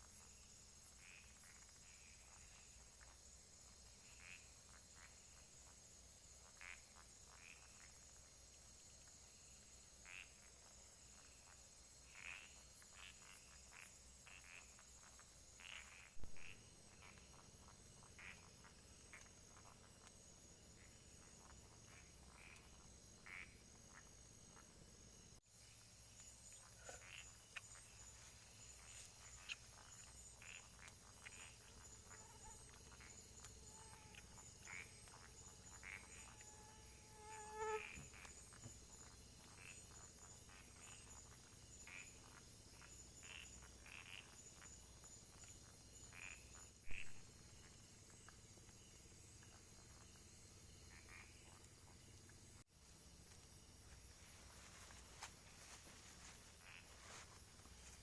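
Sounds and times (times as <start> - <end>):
insects chirring: 0.0 - 58.0
frog calls: 0.3 - 3.2, 3.9 - 5.8, 6.4 - 8.2, 10.0 - 24.8, 25.7 - 47.8, 50.8 - 52.3, 54.4 - 58.0.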